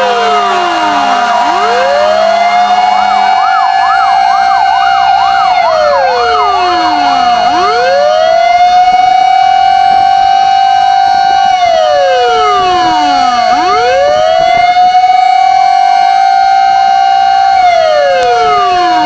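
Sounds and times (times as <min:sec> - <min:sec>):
siren fast yelp: 0:00.0 - 0:19.0
siren slow wail: 0:00.0 - 0:19.0.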